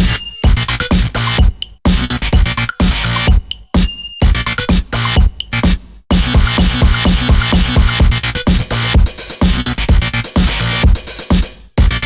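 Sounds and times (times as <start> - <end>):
electronic dance music: 0.0 - 12.0
heavy kick-drum beat: 0.0 - 12.0.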